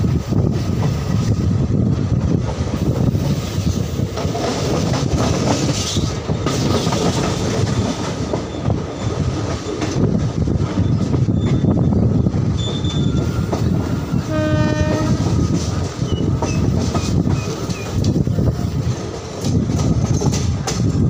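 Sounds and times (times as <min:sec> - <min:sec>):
train running noise: 0:00.0 - 0:21.0
train wheels clacking over rails: 0:00.0 - 0:21.0.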